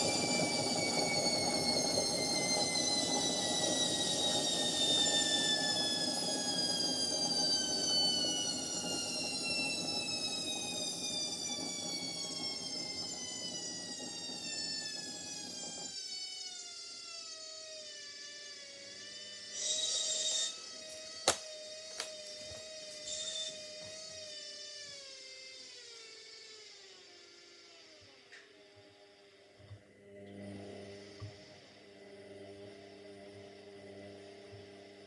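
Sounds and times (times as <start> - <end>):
washing machine motor whining: 0.0 - 34.1.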